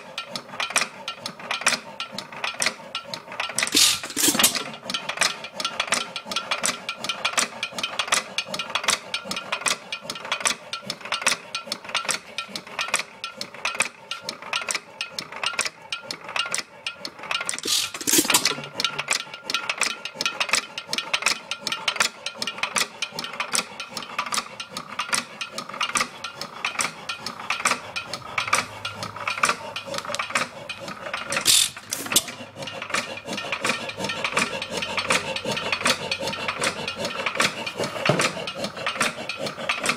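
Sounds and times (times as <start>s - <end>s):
hit-and-miss engine clattering: 0.0s - 39.9s.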